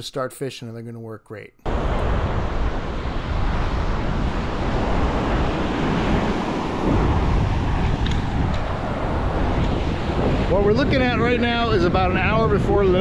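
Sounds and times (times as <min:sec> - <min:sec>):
ocean surf breaking: 0:01.7 - 0:13.0
wind buffeting microphone: 0:01.7 - 0:13.0.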